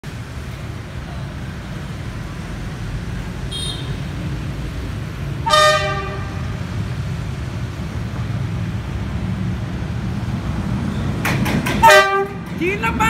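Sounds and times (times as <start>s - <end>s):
city road traffic rumble: 0.0s - 13.0s.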